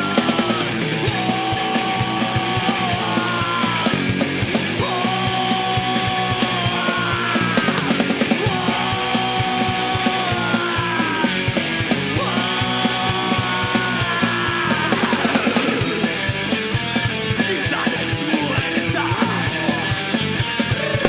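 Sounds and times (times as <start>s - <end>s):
man singing hard: 0.0s - 21.0s
punk band playing live: 0.0s - 21.0s.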